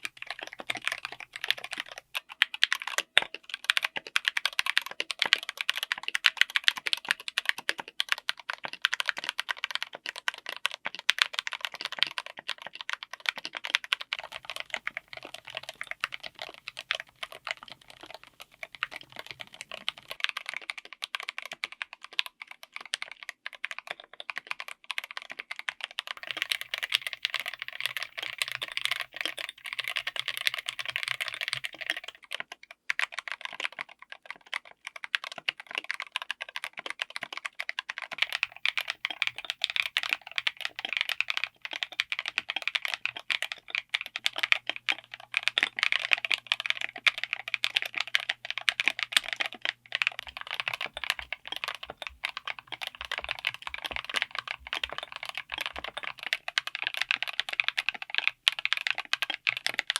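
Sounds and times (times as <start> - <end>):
mechanical keyboard typing: 0.0 - 59.9.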